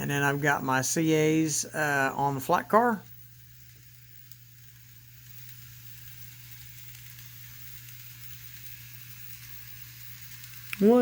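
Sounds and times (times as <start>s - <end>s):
low steady hum: 0.0s - 11.0s
model train rolling on track: 0.0s - 11.0s.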